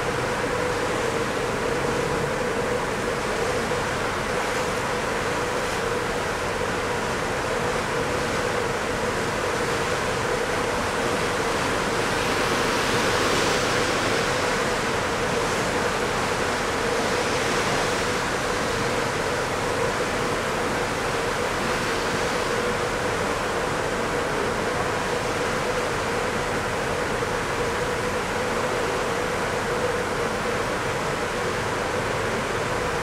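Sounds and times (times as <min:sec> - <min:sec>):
sea: 0:00.0 - 0:33.0
steady hum: 0:00.0 - 0:33.0
wind: 0:00.0 - 0:33.0.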